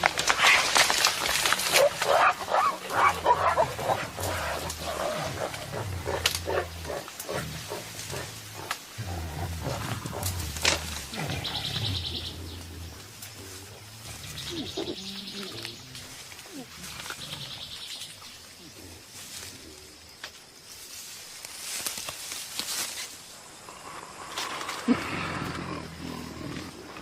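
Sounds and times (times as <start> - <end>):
cracks and rustles: 0.0 - 25.6
gorillas grunting: 0.7 - 19.2, 23.6 - 27.0.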